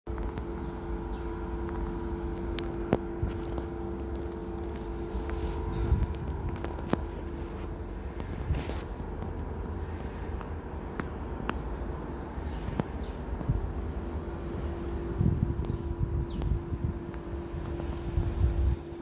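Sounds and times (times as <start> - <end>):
train low rumble: 0.1 - 19.0
two-tone mechanical hum: 0.1 - 19.0.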